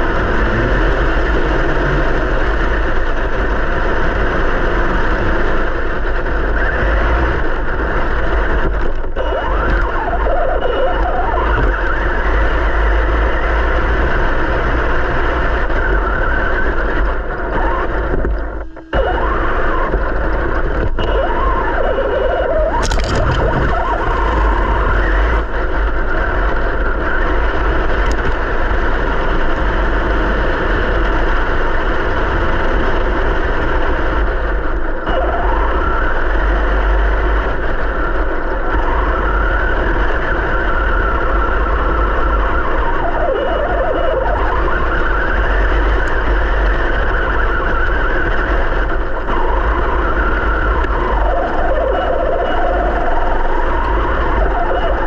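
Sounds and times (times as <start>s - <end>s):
electric motor and gears whining: 0.0s - 55.0s
low rumble of camera shaking: 0.0s - 55.0s.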